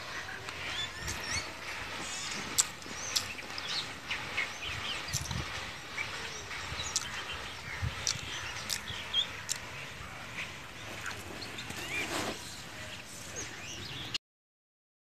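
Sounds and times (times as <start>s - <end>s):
bird chirps: 0.0s - 14.2s.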